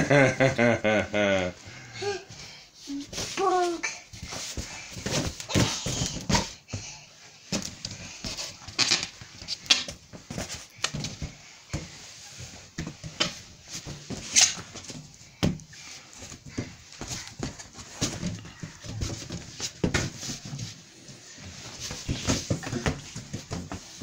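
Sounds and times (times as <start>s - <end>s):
balloons squeaking and bumping: 4.2s - 24.0s.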